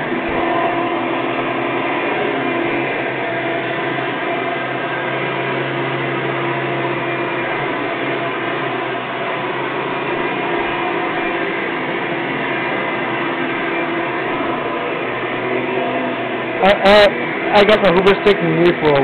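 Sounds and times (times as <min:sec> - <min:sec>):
brush roll spinning against carpet: 0:00.0 - 0:19.0
upright vacuum cleaner running: 0:00.0 - 0:19.0.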